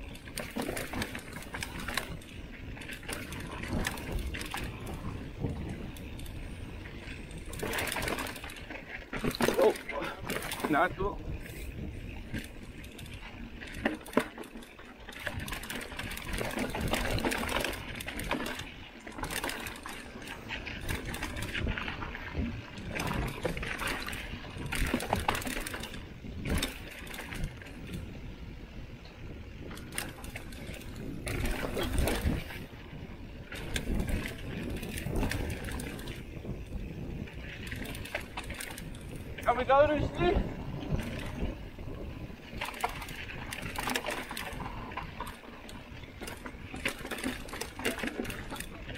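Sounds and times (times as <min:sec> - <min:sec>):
bike knocking and rattling: 0:00.0 - 0:48.9
bike tyres on dirt: 0:00.0 - 0:48.9.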